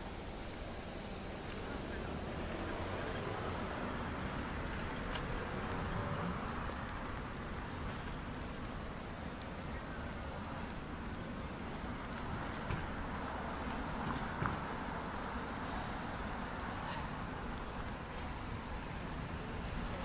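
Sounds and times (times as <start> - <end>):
cars passing on road: 0.0 - 20.0.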